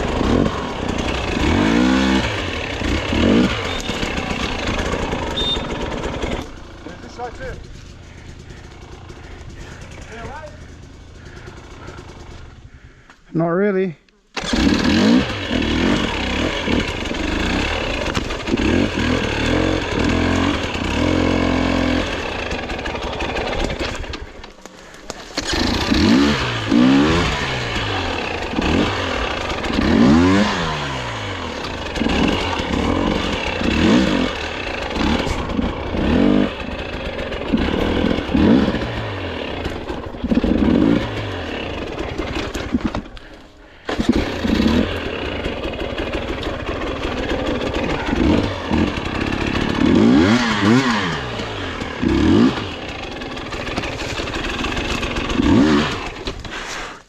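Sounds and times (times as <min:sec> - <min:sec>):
dirt bike engine revving: 0:00.0 - 0:12.8, 0:14.4 - 0:57.0.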